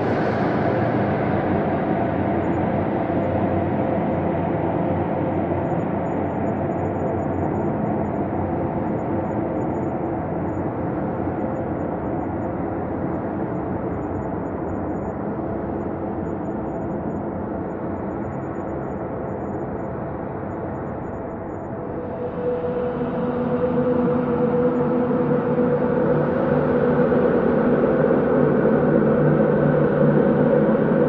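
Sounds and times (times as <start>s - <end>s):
ambient space drone: 0.0s - 31.0s.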